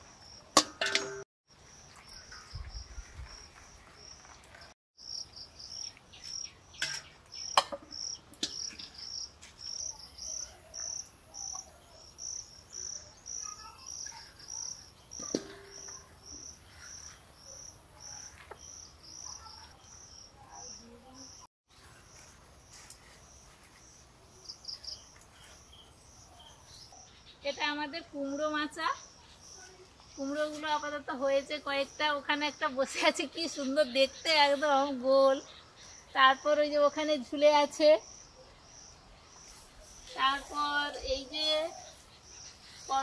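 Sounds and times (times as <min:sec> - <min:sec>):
insect chirping: 0:05.0 - 0:27.4, 0:28.3 - 0:43.0.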